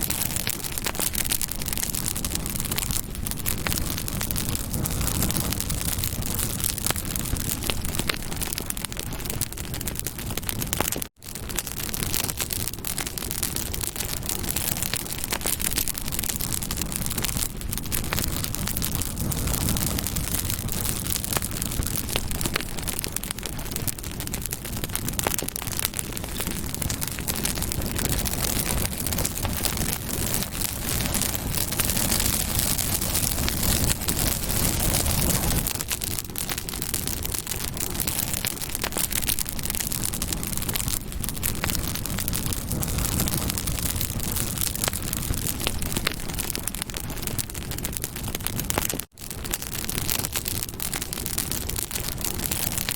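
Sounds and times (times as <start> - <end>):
campfire flames rushing: 0.0 - 52.9
wood crackling and popping: 0.0 - 52.9.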